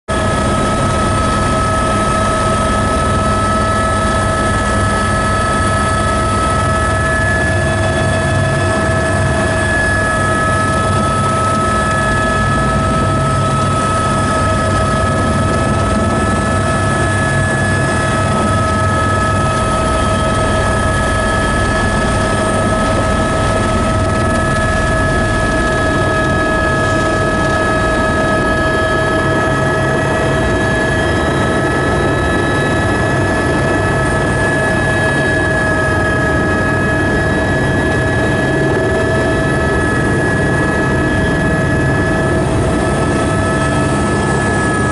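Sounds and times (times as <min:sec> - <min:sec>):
helicopter rotor beat: 0:00.1 - 0:44.9
helicopter turbine whine: 0:00.1 - 0:44.9.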